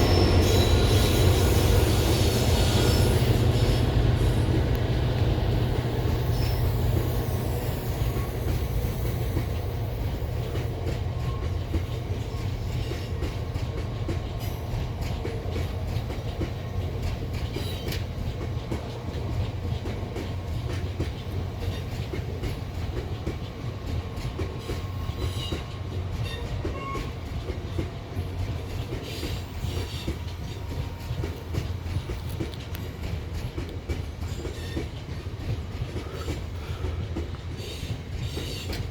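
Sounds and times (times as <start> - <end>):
freight train rumbling past: 0.0 - 38.9
wheel clatter over rail joints: 5.8 - 38.9.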